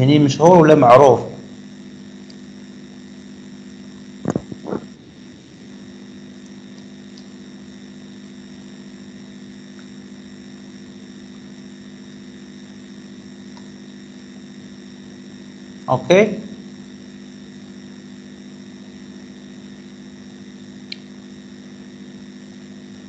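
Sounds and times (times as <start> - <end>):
background hum with hiss: 0.0 - 23.0.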